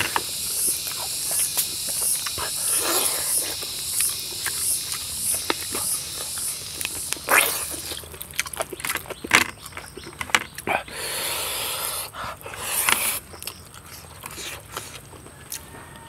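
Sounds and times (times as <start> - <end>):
insect chirping: 0.0 - 16.0
wet chewing and lip-smacking: 0.0 - 16.0.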